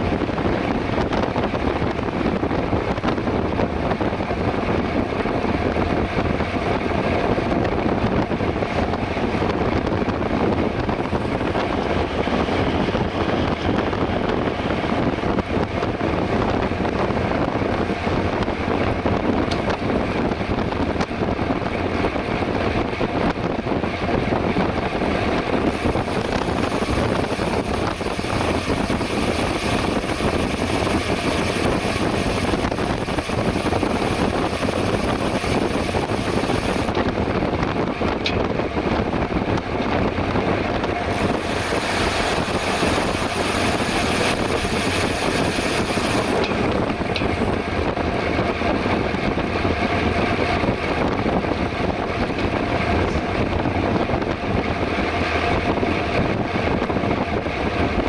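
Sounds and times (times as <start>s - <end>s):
bicycle tyre hum: 0.0s - 58.0s
wind rushing over microphone: 0.0s - 58.0s.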